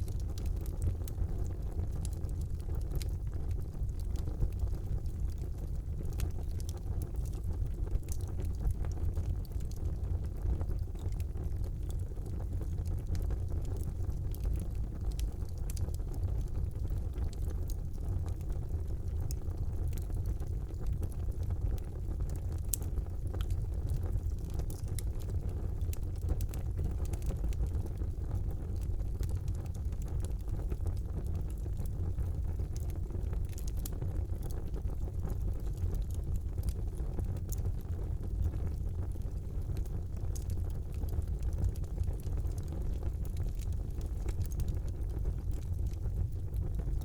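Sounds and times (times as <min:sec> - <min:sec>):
fire rumbling: 0:00.0 - 0:47.0
logs crackling and popping: 0:00.0 - 0:47.0.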